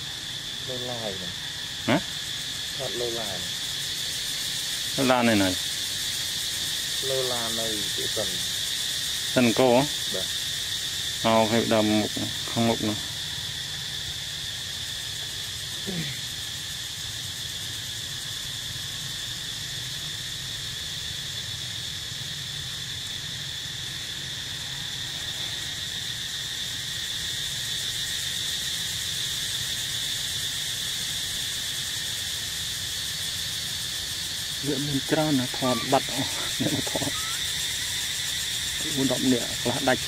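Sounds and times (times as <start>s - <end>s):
high-pitched insect drone: 0.0s - 40.0s.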